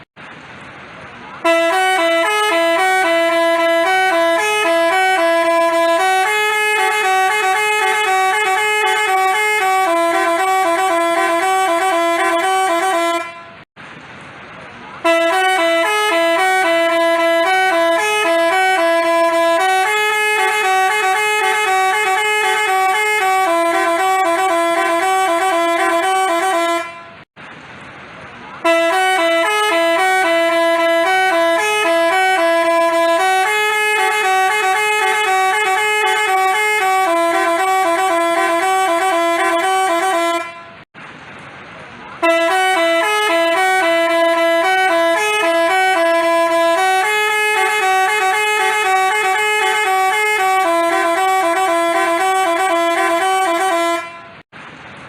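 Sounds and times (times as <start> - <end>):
bus horn playing a melody: 1.4 - 13.7, 15.0 - 27.3, 28.6 - 40.9, 42.2 - 54.5.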